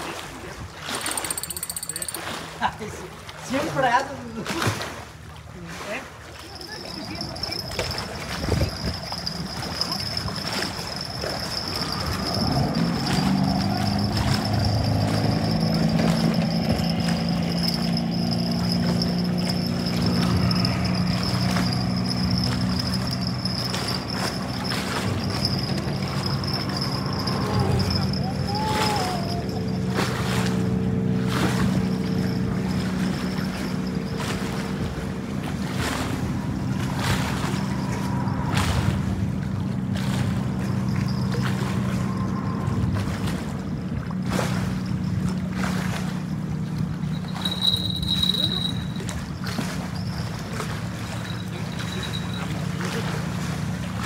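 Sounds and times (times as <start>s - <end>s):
low engine hum: 0.0s - 54.0s
motor droning: 6.4s - 54.0s
thin high whine: 6.6s - 45.4s, 46.2s - 54.0s.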